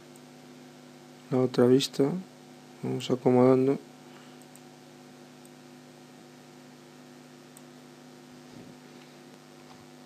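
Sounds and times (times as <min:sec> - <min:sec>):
electrical hum with hiss: 0:00.0 - 0:10.0.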